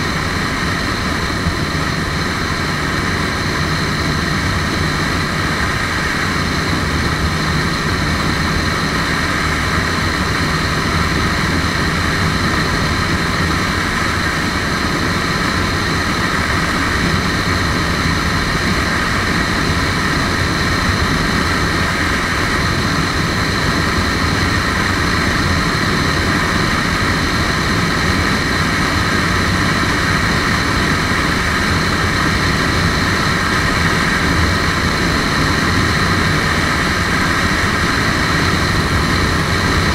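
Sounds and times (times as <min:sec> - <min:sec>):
motorcycle engine at high revs: 0:00.0 - 0:39.9
wind rush on microphone: 0:00.0 - 0:39.9.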